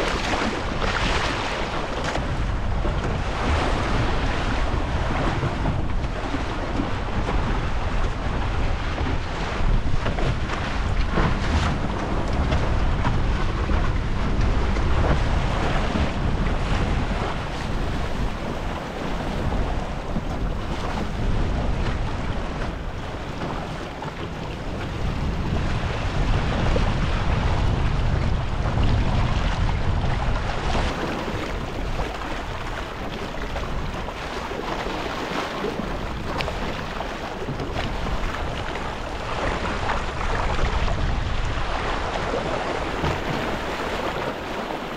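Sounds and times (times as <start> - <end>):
water splashing along hull: 0.0 - 44.9
wind buffeting microphone: 0.0 - 44.9.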